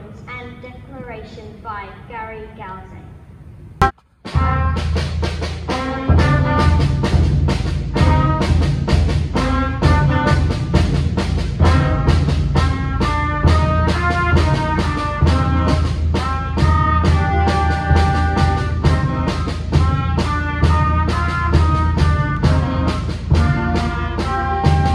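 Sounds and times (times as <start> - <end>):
concert band playing: 3.8 - 24.9
steady drum beat: 3.8 - 24.9.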